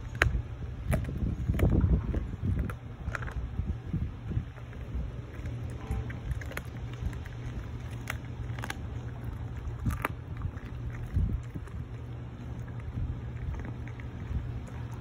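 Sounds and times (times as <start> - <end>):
bone crunches: 0.0 - 3.7, 4.4 - 15.0
dog chewing meat: 0.0 - 15.0
wind rumble on microphone: 0.0 - 15.0.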